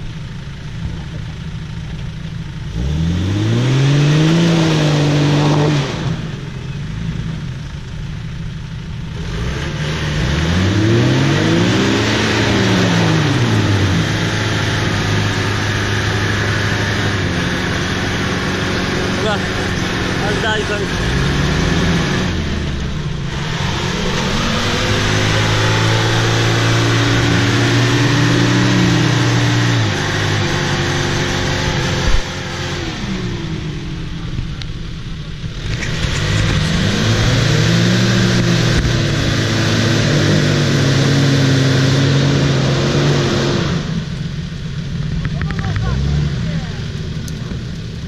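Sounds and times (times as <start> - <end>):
car engine revving hard: 2.6 - 7.6, 9.0 - 48.0.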